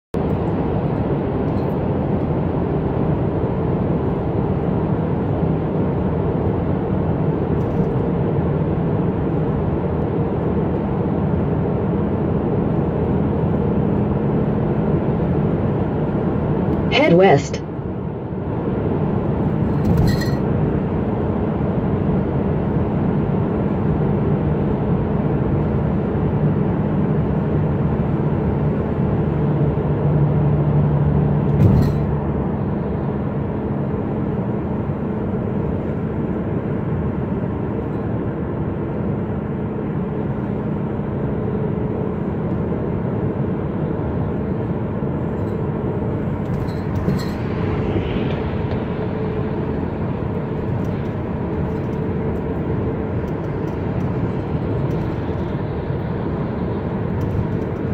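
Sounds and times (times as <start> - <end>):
car road and engine noise: 0.2 - 57.9.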